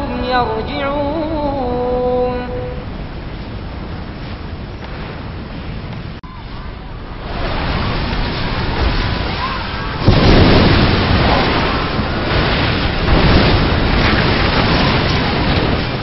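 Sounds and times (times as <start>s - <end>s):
waves breaking: 0.0s - 16.0s.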